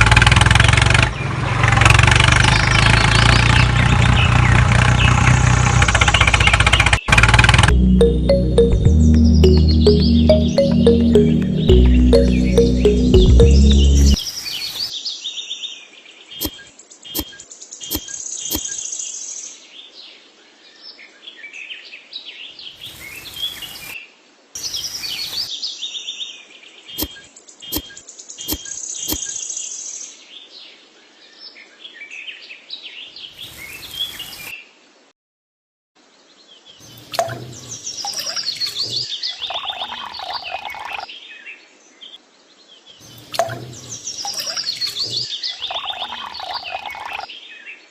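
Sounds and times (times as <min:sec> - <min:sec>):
small birds chirping: 0:02.0 - 0:07.2, 0:08.0 - 0:24.0, 0:24.6 - 0:34.8, 0:36.1 - 0:47.9.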